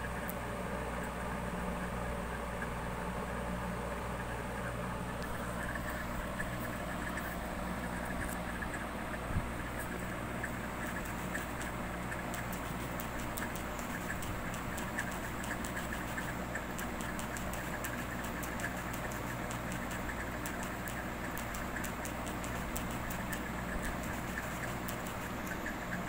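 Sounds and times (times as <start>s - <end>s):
low machine hum: 0.0s - 26.0s
faint irregular ticking: 1.8s - 26.0s.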